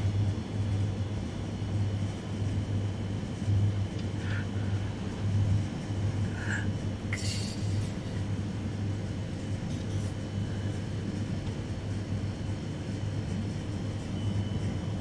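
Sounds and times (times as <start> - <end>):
refrigerator compressor hum: 0.0 - 15.0.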